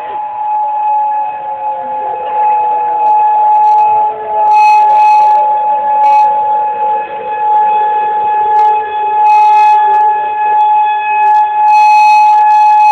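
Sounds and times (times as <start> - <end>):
lower siren tone falling: 0.0 - 12.9
warning siren wailing: 0.0 - 12.9.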